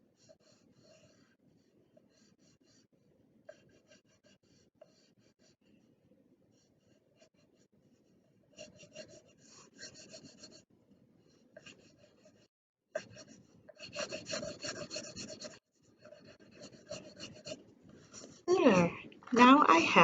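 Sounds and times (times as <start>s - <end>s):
drawing tool scribbling on paper: 0.1s - 5.9s, 6.5s - 10.7s, 11.3s - 18.8s.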